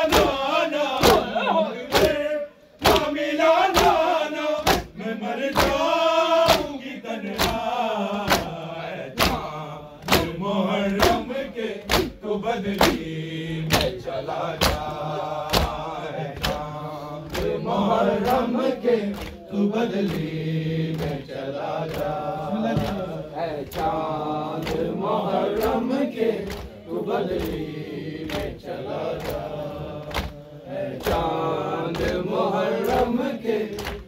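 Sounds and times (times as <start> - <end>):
male voices chanting: 0.0 - 34.0
men beating chests in unison: 0.0 - 34.0.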